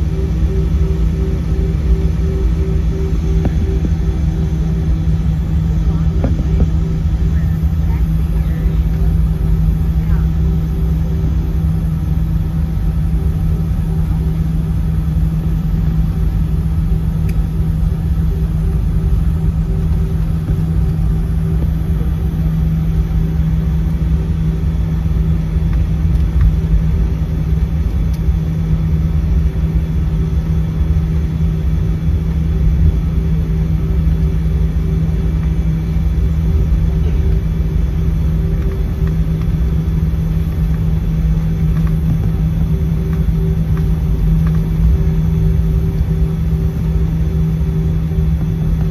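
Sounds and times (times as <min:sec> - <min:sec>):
jet engines droning: 0:00.0 - 0:48.9
low rumble: 0:00.0 - 0:48.9.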